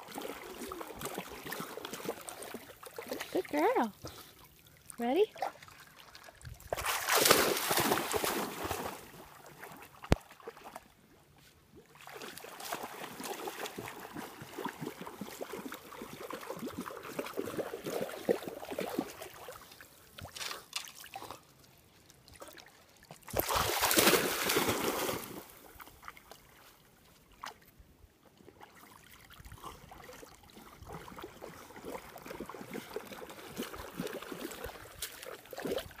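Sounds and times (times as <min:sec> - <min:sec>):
water splashing around swimming dog: 0:00.0 - 0:10.9, 0:11.9 - 0:27.6, 0:28.4 - 0:36.0.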